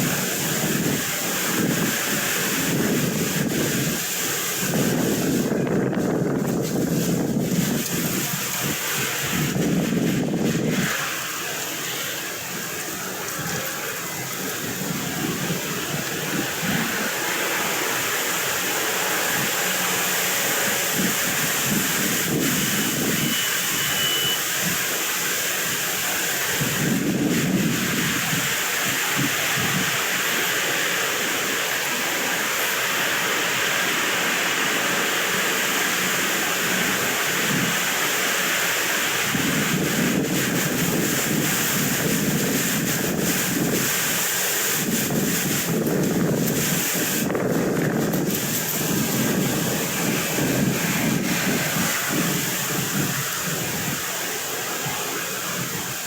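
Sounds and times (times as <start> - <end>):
wind blowing across microphone: 0.0 - 56.0.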